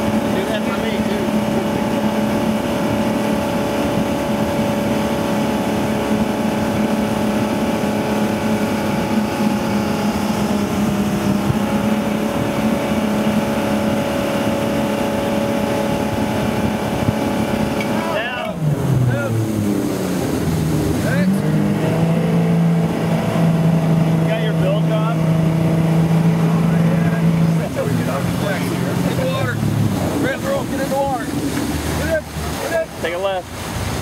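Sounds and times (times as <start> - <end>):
boat engine running: 0.0 - 34.0
water rushing over hull: 0.0 - 34.0.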